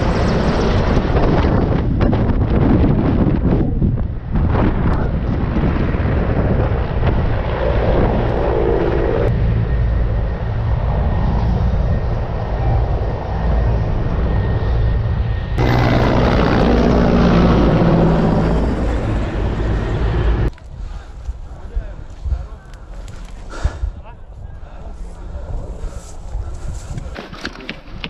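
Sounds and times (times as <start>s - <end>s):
helicopter rotor and turbines: 0.0s - 27.1s.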